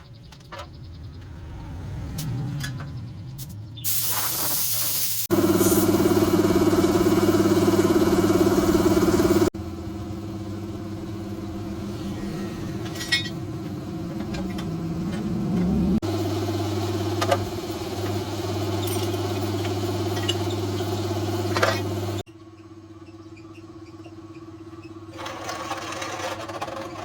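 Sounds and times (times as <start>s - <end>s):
small engine humming: 5.3s - 27.0s.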